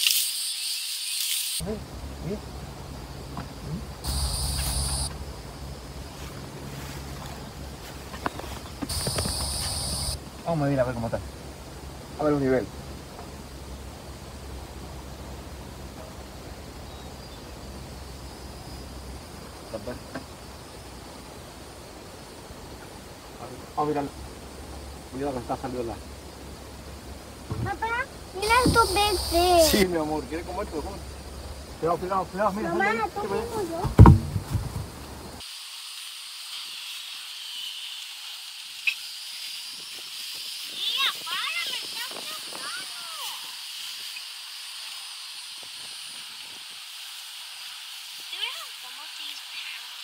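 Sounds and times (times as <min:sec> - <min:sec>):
high-pitched hiss: 0:00.0 - 0:50.0
insect chorus: 0:00.0 - 0:50.0.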